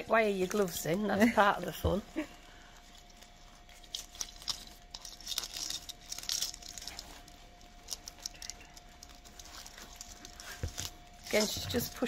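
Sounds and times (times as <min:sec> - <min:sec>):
foliage rustling and crackling: 0:00.0 - 0:12.0.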